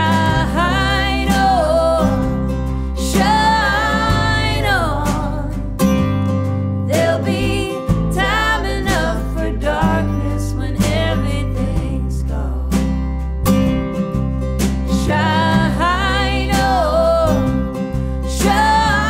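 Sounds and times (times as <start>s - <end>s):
woman singing: 0.0s - 5.7s, 6.9s - 12.9s, 14.9s - 19.0s
electric bass: 0.0s - 19.0s
strummed acoustic guitar: 0.0s - 19.0s.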